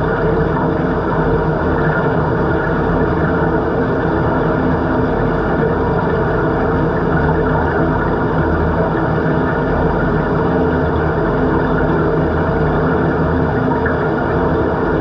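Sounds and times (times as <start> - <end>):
underwater machine hum: 0.0 - 15.0.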